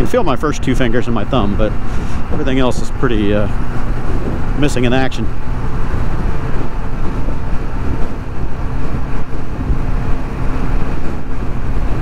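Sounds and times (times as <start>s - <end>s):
small engine running steadily: 0.0s - 12.0s
wind noise on microphone: 0.0s - 12.0s.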